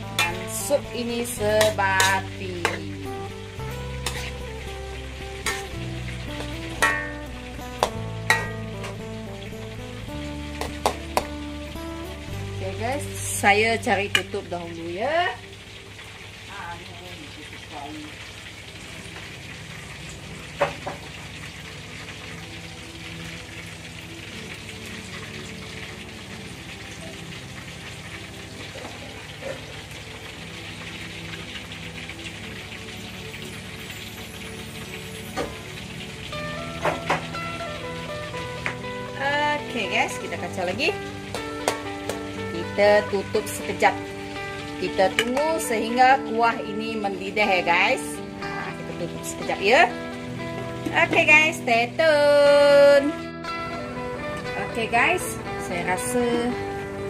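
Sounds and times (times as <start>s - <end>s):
soft background music: 0.0s - 57.0s
soup sizzling in a wok: 0.0s - 57.0s.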